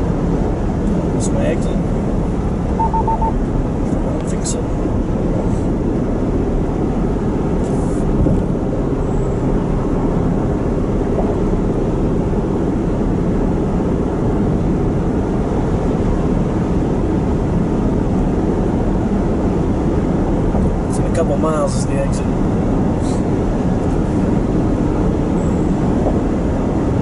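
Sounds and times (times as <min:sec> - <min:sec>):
road and engine noise in cab: 0:00.0 - 0:27.0.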